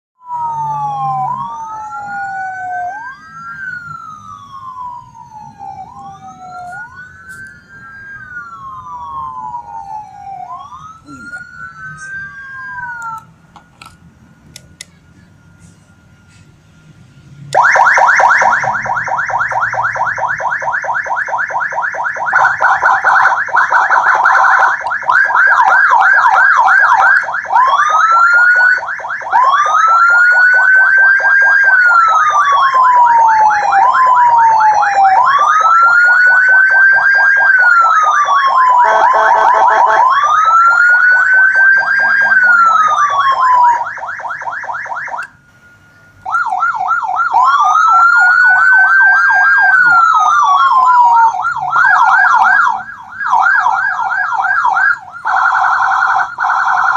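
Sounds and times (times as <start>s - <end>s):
electronic siren: 0.2s - 56.9s.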